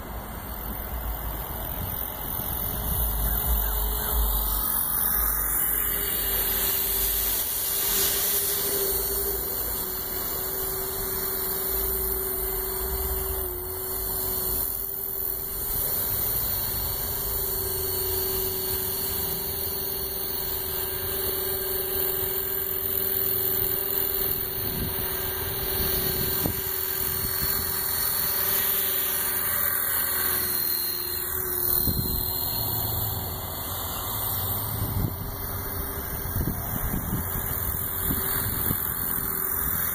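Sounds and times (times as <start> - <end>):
rc helicopter whine: 0.0 - 39.9.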